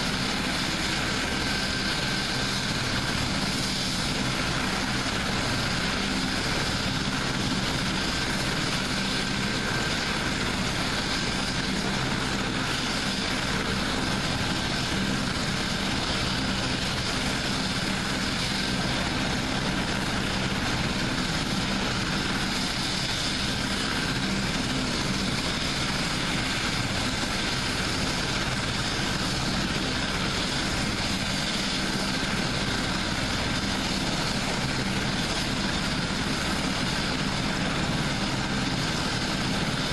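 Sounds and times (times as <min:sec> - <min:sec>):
helicopter running with rotor turning: 0:00.0 - 0:39.9.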